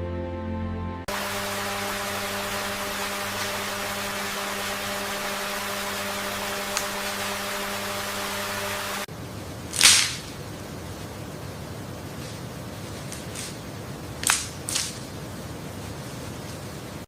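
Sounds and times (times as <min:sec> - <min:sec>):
steady hum with hiss: 0:01.1 - 0:17.0.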